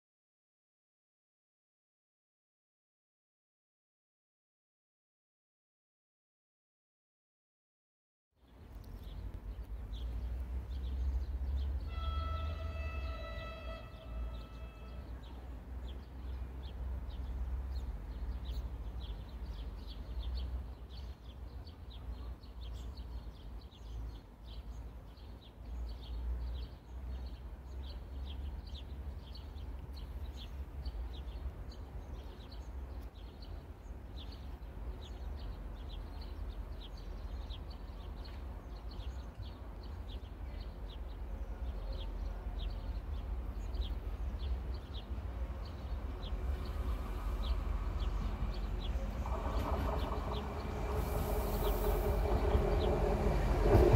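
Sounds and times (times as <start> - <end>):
bird chirping: 8.4 - 53.9.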